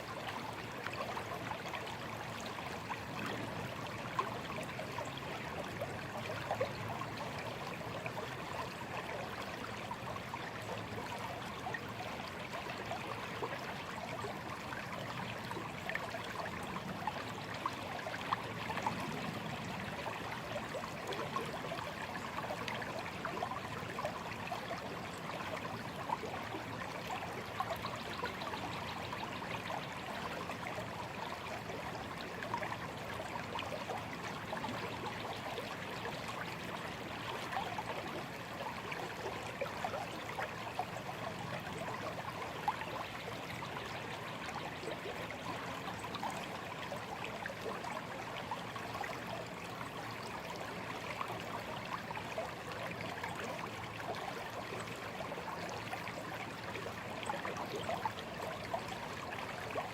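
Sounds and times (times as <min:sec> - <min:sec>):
shallow stream babbling: 0:00.0 - 0:59.9.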